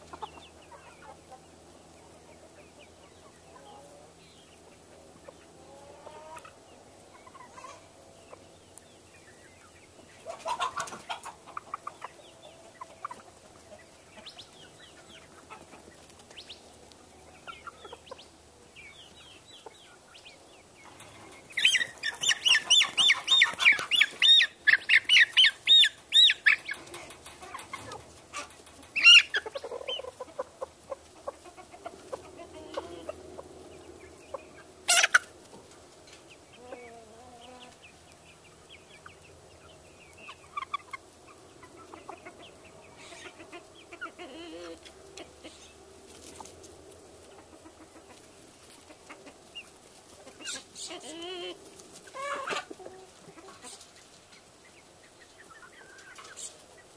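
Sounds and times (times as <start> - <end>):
loud rapid poultry calls: 0.0 - 8.5, 9.3 - 16.7, 19.1 - 35.5, 38.8 - 46.5, 47.3 - 56.9
poultry clucking: 0.0 - 56.9.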